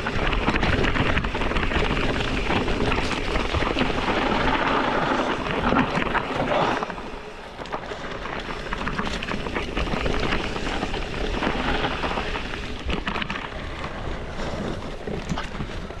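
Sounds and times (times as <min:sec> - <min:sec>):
bike clicks and rattles: 0:00.0 - 0:16.0.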